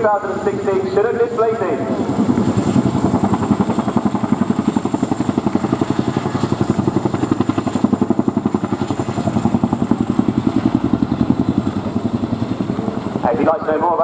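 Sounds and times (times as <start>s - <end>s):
helicopter rotor blades beating: 0.0s - 14.0s.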